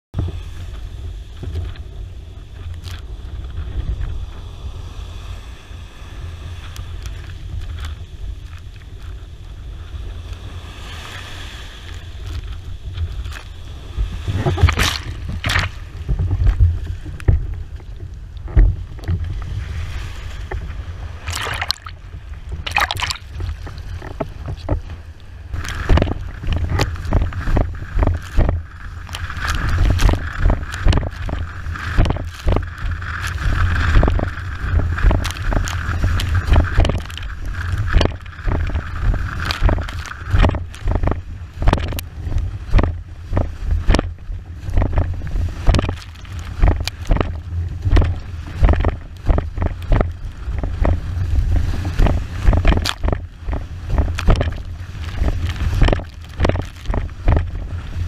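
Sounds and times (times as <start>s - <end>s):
steady low rumble: 0.2s - 58.0s
wind buffeting microphone: 6.1s - 58.0s.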